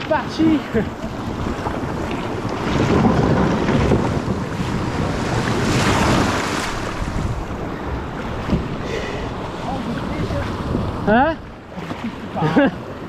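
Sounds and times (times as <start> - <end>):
sea waves washing: 0.0 - 13.0
wind on microphone: 0.0 - 13.0.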